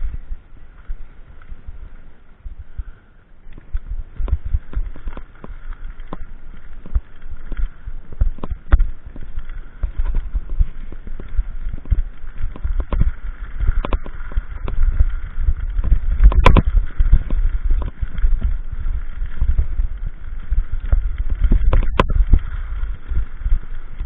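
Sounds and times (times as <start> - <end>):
wind noise: 0.0 - 24.0
knocks and crunches: 3.5 - 23.6.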